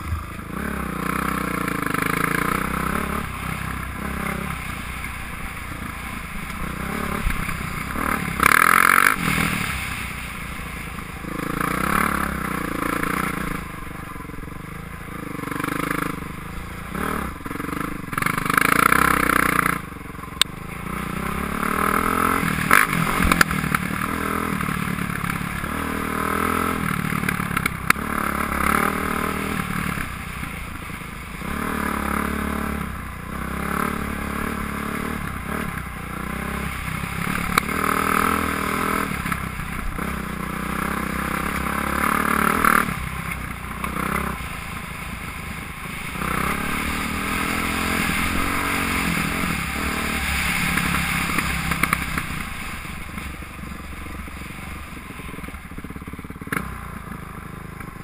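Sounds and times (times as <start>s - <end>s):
dirt bike engine revving: 0.0s - 57.8s.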